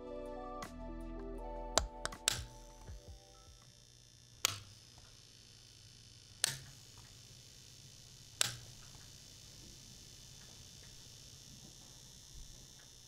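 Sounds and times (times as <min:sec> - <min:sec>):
low electrical hum: 0:01.4 - 0:13.0.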